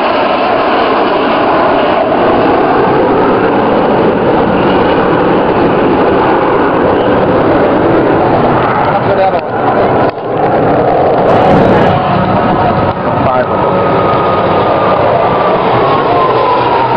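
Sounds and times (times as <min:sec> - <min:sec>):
jet engines flying past: 0:00.0 - 0:16.9.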